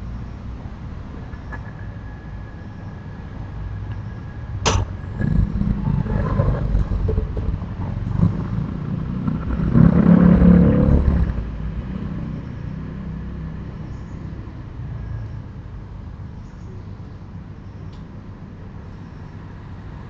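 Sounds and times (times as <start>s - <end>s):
vehicle passing with low rumble: 0.0s - 20.0s.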